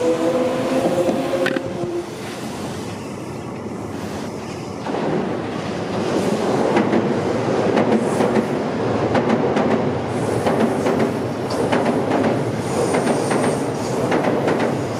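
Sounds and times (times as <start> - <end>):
electric train rumbling: 0.0 - 14.9.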